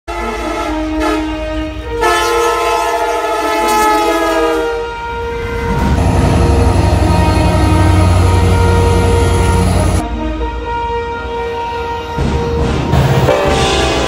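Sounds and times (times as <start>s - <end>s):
locomotive air horn chord: 0.1s - 12.6s
rumble of passing train: 0.1s - 14.0s.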